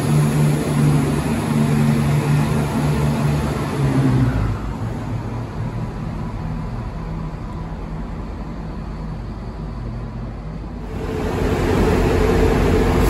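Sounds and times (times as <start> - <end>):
diesel train engine droning: 0.0 - 13.0.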